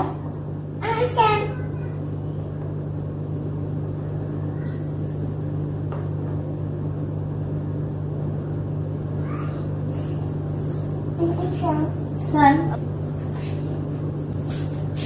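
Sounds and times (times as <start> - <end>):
low appliance hum: 0.0 - 15.0.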